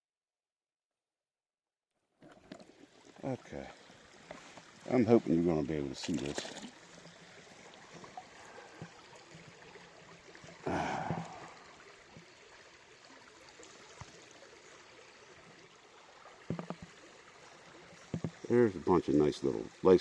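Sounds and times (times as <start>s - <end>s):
faint water trickle: 2.1s - 20.0s.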